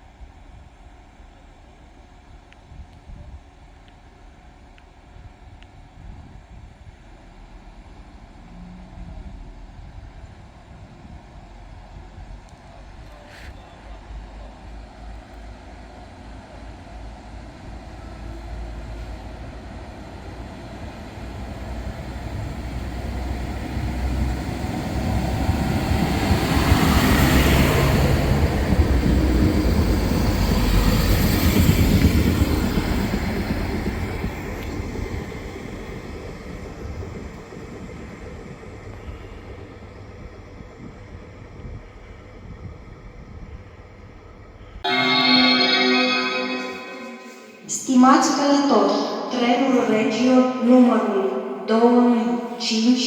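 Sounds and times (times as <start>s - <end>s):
train rumbling past on rails: 3.6s - 47.8s.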